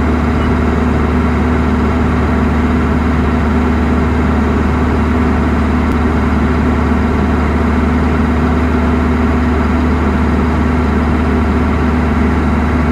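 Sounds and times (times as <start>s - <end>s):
heavy engine humming: 0.0s - 12.9s.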